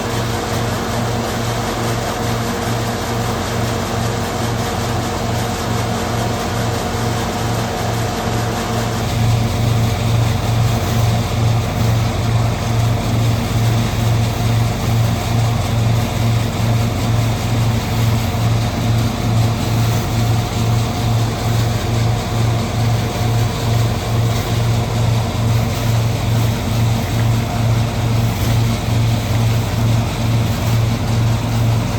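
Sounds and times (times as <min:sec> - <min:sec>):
engine hum: 0:00.0 - 0:31.9
threshing machine rattling: 0:00.0 - 0:31.9.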